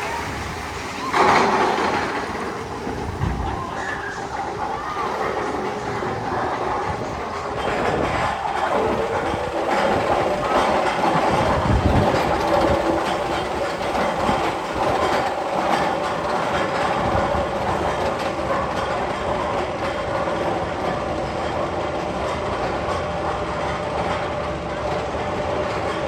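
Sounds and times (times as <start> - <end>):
roller coaster train rumbling on track: 0.0 - 26.0.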